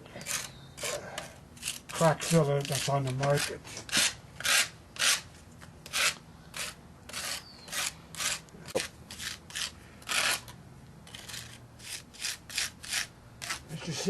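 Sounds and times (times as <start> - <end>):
hand tool scraping gritty paste: 0.2 - 5.2, 5.8 - 10.5, 11.1 - 14.0.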